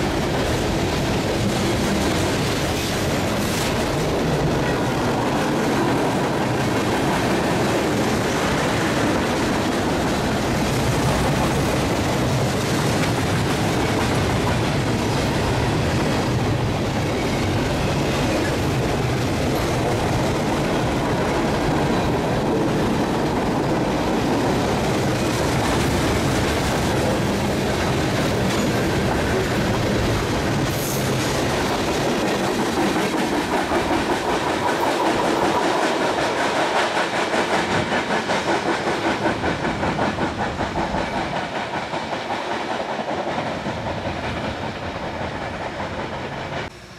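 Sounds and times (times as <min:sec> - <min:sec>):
freight train rolling past: 0:00.0 - 0:46.9
steel wheels on rails: 0:00.0 - 0:46.9.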